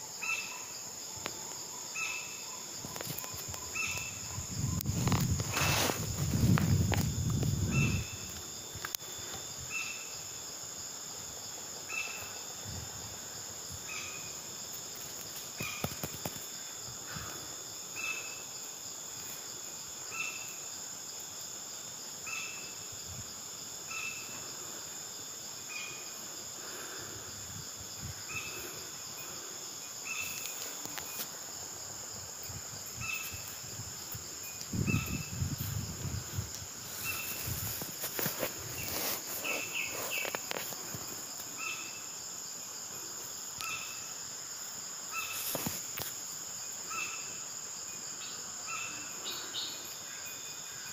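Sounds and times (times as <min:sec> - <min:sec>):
insects chirping: 0:00.0 - 0:50.9.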